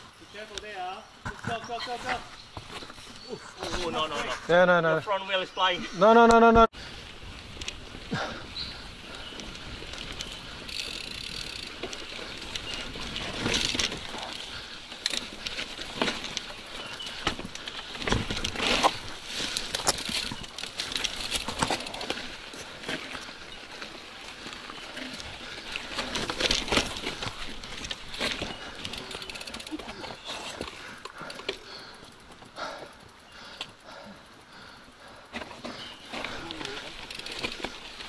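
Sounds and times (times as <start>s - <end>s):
bike tyres crunching over stones: 0.0s - 38.0s
bike clattering over bumps: 7.5s - 38.0s.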